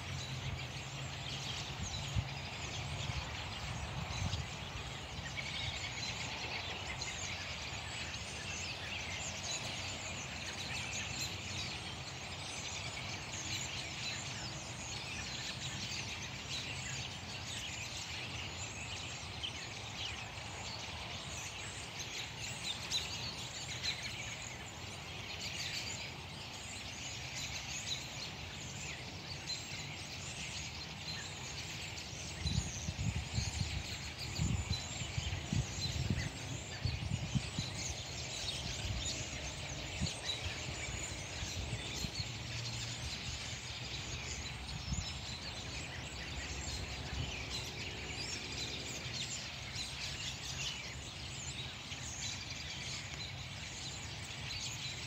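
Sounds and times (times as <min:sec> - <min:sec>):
flock of birds chirping: 0:00.0 - 0:55.0.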